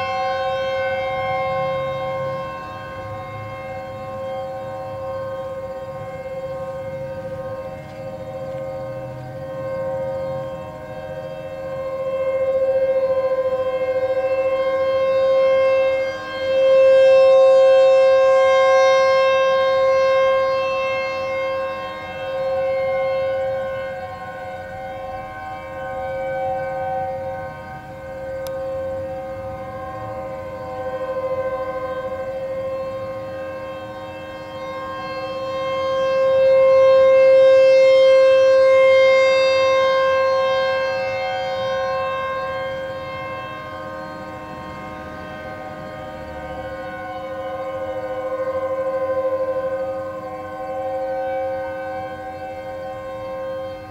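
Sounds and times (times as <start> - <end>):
warning siren steady tone: 0.0 - 53.9.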